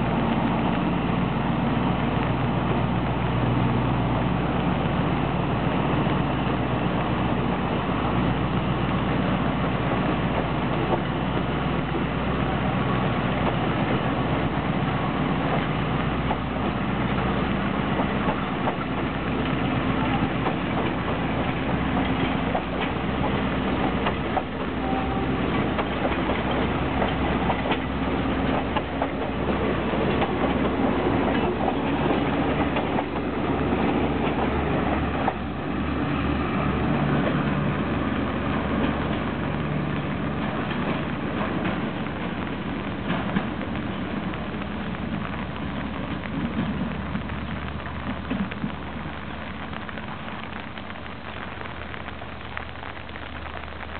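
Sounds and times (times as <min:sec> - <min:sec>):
diesel engine drone: 0:00.0 - 0:53.9
wheels clicking over rail joints: 0:00.0 - 0:53.9.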